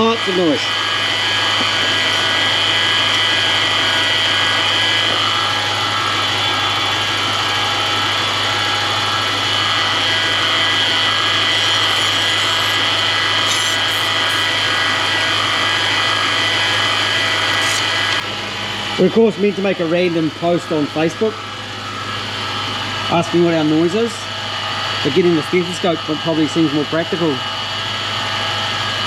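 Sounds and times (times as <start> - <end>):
high-pitched bearing whine: 0.0 - 27.8.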